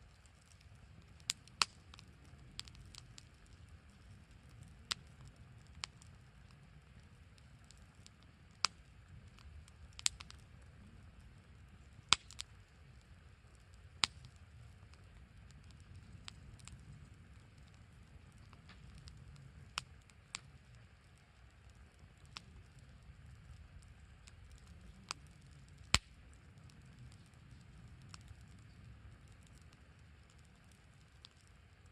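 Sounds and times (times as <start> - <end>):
low steady rumble: 0.0 - 31.9
wood fire crackling pops: 0.0 - 31.9.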